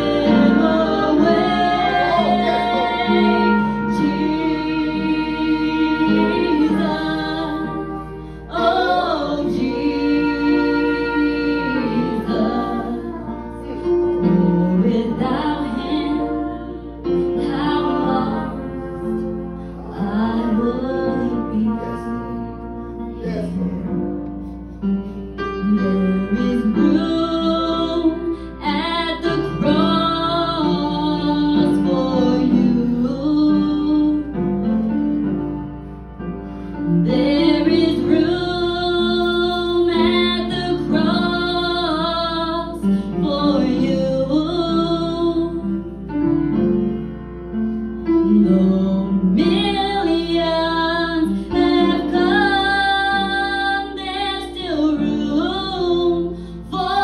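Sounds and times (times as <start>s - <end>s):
woman singing worship song: 0.0s - 22.7s, 25.6s - 34.4s, 36.9s - 45.6s, 48.2s - 57.0s
sustained keyboard chords: 0.0s - 56.1s.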